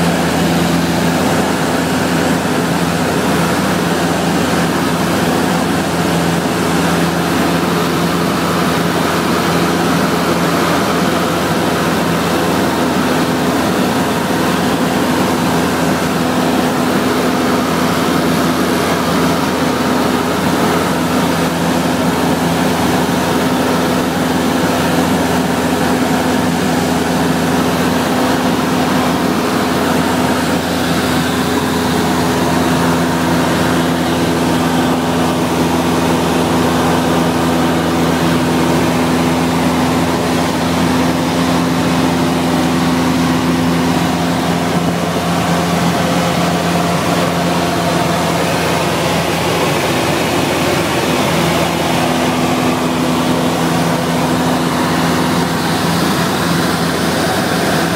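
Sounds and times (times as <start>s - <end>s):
airplane engine and propeller drone: 0.0s - 57.9s.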